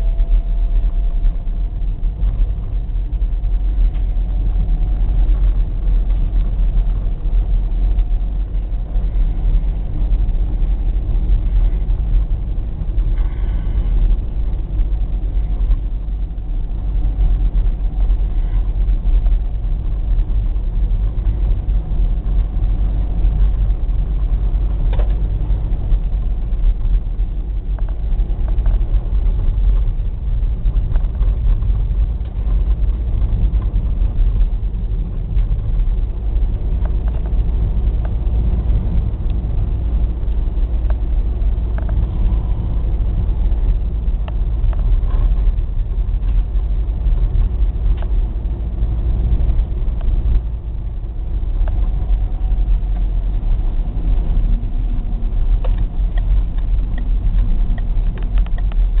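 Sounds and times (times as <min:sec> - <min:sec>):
faint clicks and rattles: 0:00.0 - 0:59.0
vehicle engine rumble: 0:00.0 - 0:59.0.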